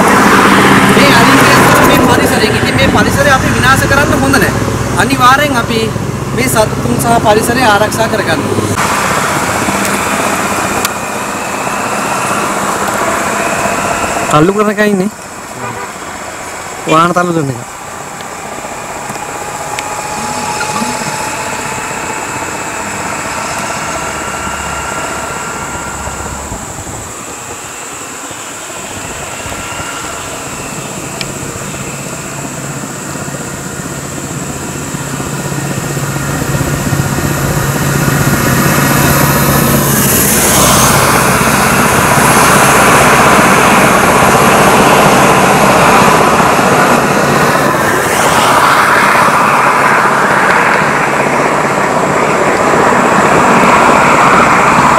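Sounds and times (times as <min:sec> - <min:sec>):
lorry engine drone: 0:00.0 - 0:54.9
vehicle engines passing: 0:00.0 - 0:54.9.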